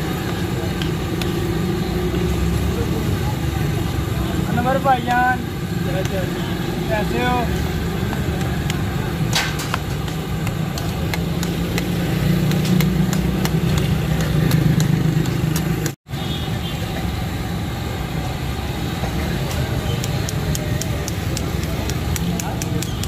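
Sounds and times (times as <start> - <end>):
engines idling: 0.0 - 23.0
street traffic: 0.0 - 23.0.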